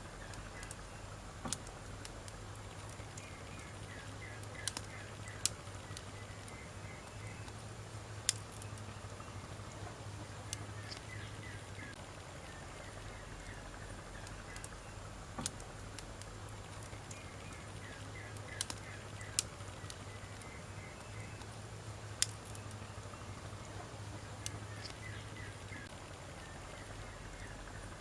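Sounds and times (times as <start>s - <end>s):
low steady rumble: 0.0s - 28.0s
wood fire crackling: 0.0s - 28.0s
sharp pops of fire: 0.1s - 27.6s.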